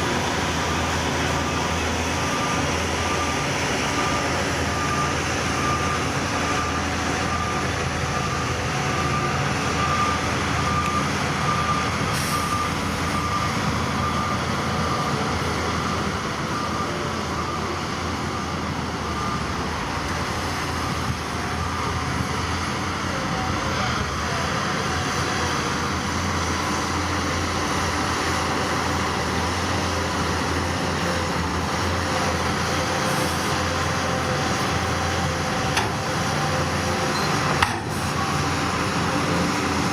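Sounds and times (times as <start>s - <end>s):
reversing alarm beeping: 0.0s - 23.6s, 24.2s - 39.9s
diesel engine running: 0.0s - 39.9s.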